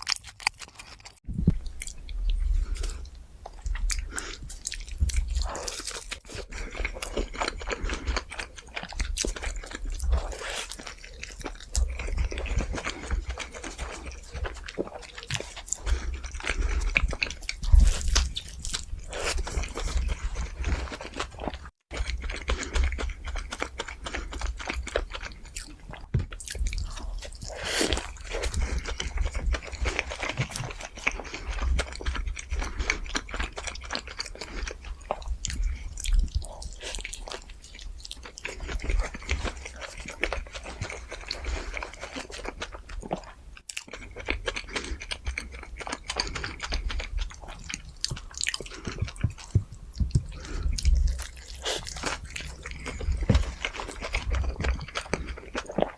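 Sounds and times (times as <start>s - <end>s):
crunchy bites and chewing: 0.0s - 55.9s.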